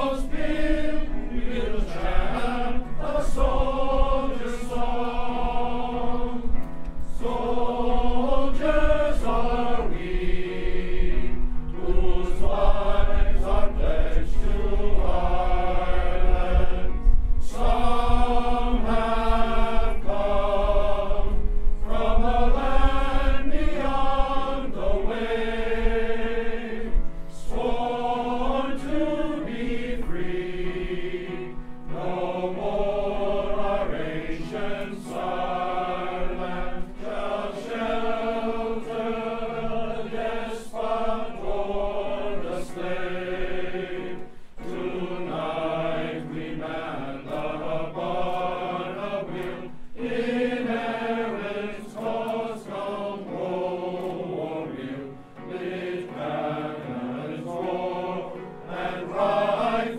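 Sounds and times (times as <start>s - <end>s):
audience singing along: 0.0s - 59.9s
male choir singing: 0.0s - 59.9s.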